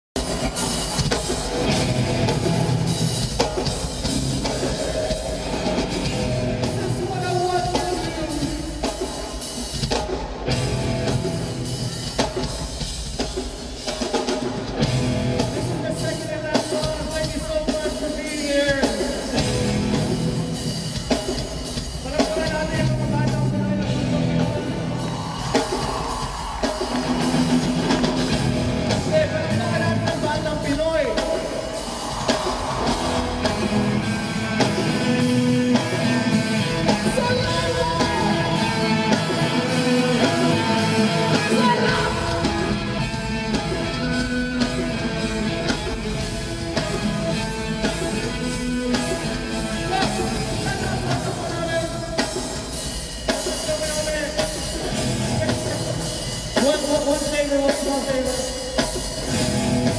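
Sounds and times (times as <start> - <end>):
drum kit: 0.1 - 59.9
electric guitars: 0.2 - 13.1, 14.3 - 18.0, 18.8 - 59.9.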